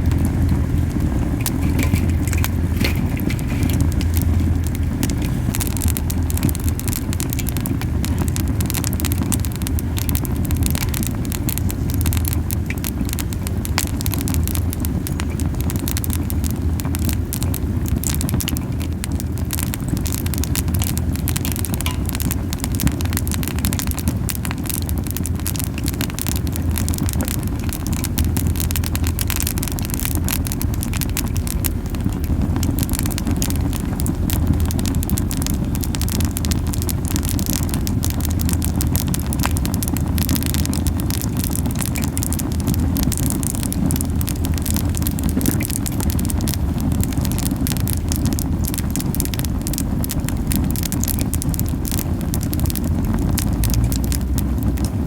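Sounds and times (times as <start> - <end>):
campfire flames roaring: 0.0 - 55.0
fire crackling and popping: 0.0 - 55.0.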